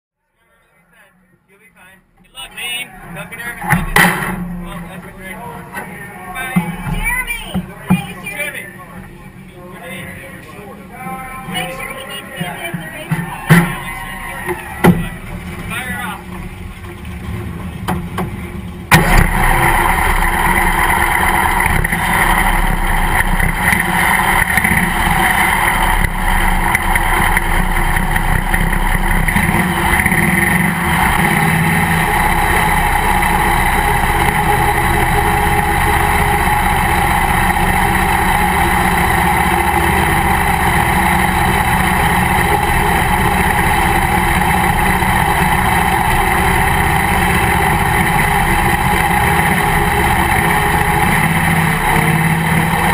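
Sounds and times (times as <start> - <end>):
race car engine running: 2.3 - 10.2, 11.4 - 52.9.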